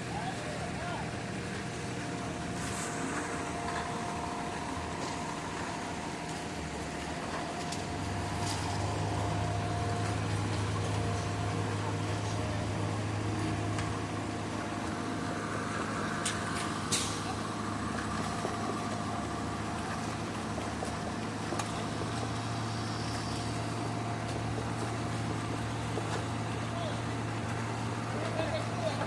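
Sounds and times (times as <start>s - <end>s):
faint steady whine: 0.0s - 29.0s
heavy engine humming: 0.0s - 29.0s.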